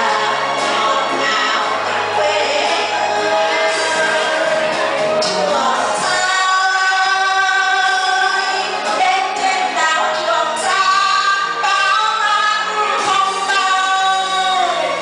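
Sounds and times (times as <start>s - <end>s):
woman singing through microphone: 0.0s - 15.0s.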